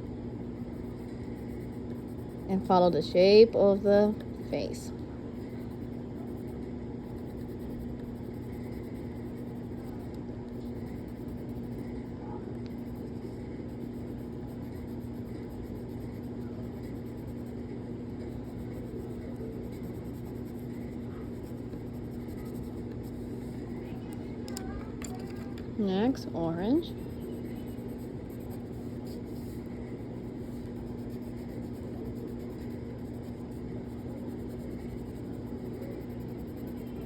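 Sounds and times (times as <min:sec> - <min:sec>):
steady low hum: 0:00.0 - 0:37.0
crayon scratching on paper: 0:05.4 - 0:12.1, 0:12.7 - 0:24.1, 0:25.0 - 0:37.0.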